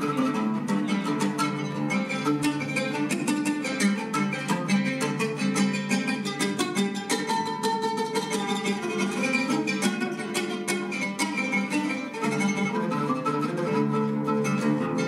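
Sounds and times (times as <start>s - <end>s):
oud quick plucked notes: 0.0s - 15.0s.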